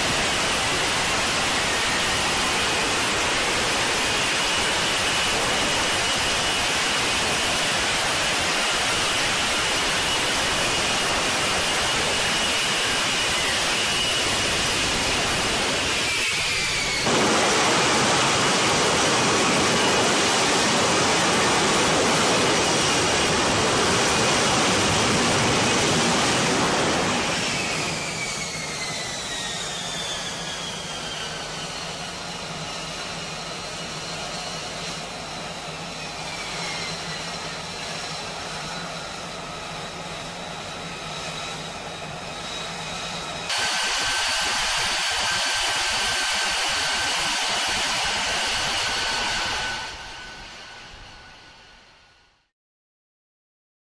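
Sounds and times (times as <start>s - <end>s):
jet engine roaring: 0.0s - 52.0s
jet idling whine: 0.0s - 52.0s
turbine whine falling in pitch: 0.0s - 52.0s.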